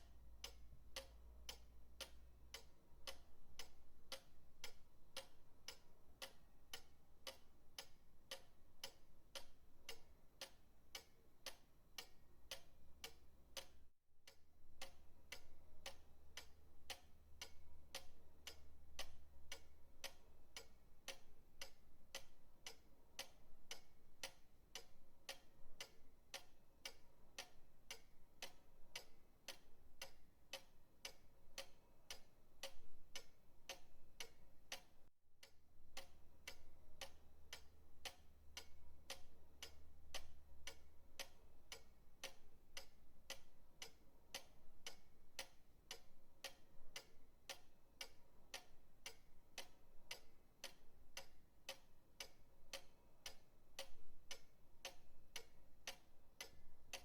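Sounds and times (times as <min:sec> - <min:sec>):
pendulum clock ticking: 0:00.0 - 0:57.0.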